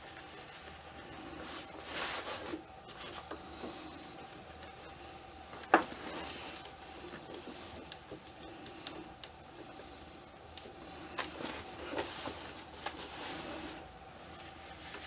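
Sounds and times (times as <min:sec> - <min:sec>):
fabric rustling: 0:00.0 - 0:08.3, 0:10.8 - 0:15.0
faint steady hum: 0:00.0 - 0:15.0.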